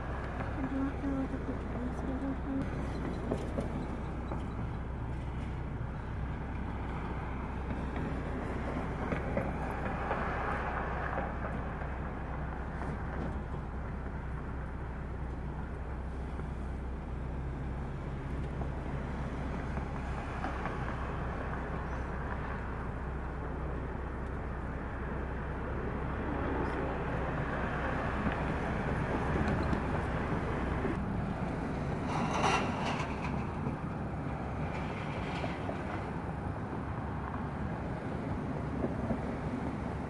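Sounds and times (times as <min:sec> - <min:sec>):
low engine rumble: 0:00.0 - 0:40.0
road traffic noise: 0:00.0 - 0:40.0.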